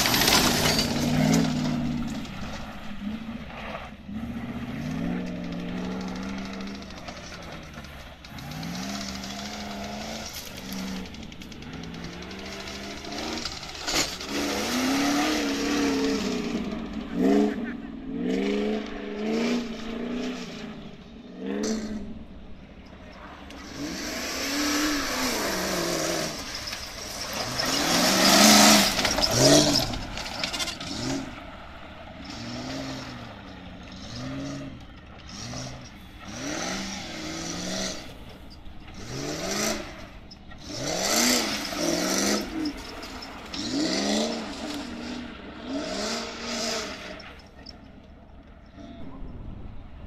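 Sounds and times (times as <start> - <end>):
engine revving in bursts: 0.0 - 47.7.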